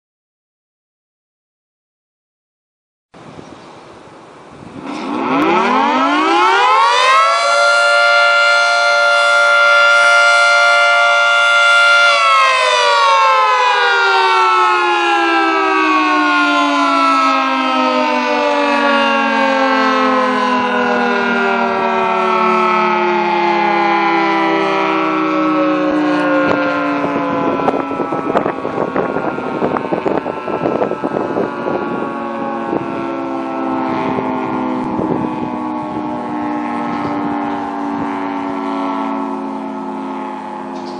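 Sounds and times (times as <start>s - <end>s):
mechanical siren: 4.8s - 40.9s.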